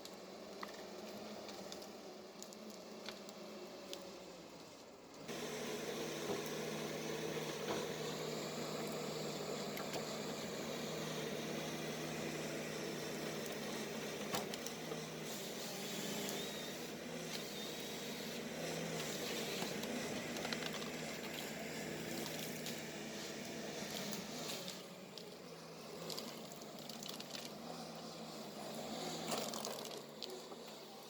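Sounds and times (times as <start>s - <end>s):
diesel engine running: 5.3s - 30.6s.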